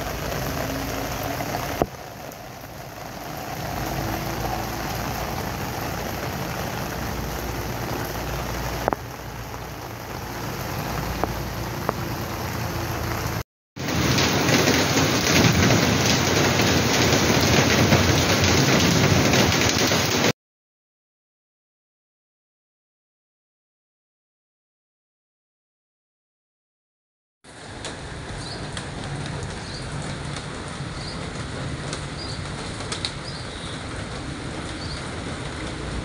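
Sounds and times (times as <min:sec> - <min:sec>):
heavy rain on standing water: 0:00.0 - 0:20.4, 0:27.4 - 0:36.0.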